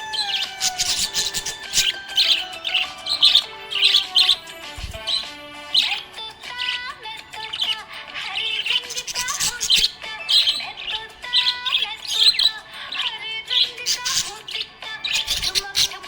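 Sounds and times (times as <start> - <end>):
budgerigar chirping and chattering: 0.0 - 16.0.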